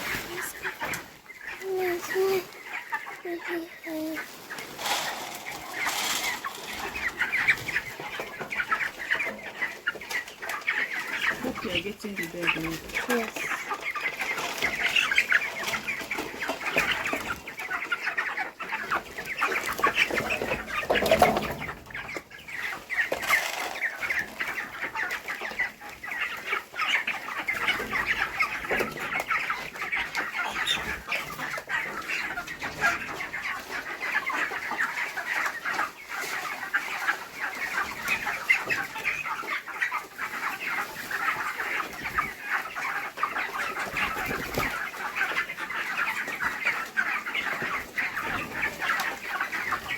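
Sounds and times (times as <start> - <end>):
chickens chattering: 0.0 - 49.9.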